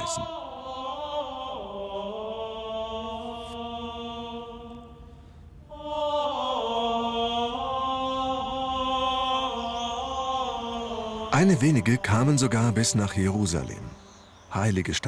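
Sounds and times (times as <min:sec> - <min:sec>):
voices chanting on held notes: 0:00.0 - 0:15.0.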